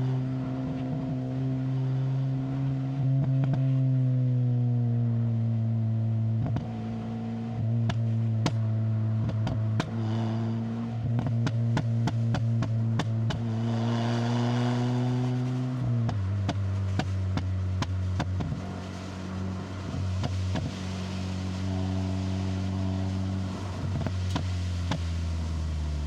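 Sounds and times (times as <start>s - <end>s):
car engine under load: 0.0s - 26.0s.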